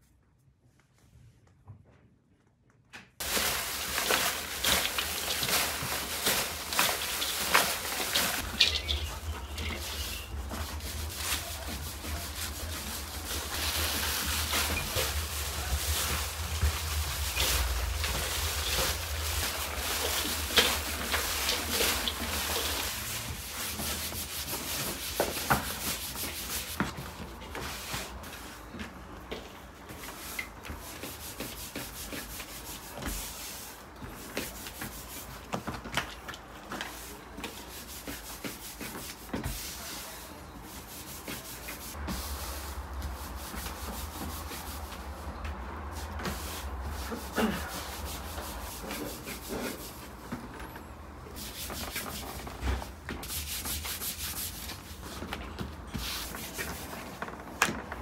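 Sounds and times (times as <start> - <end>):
hands rubbing dough: 3.2 - 50.6, 51.2 - 58.0.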